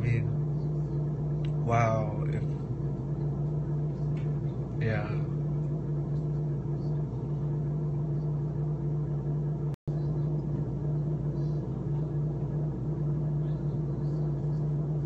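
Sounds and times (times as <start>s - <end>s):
machinery hum and rumble: 0.0s - 15.0s.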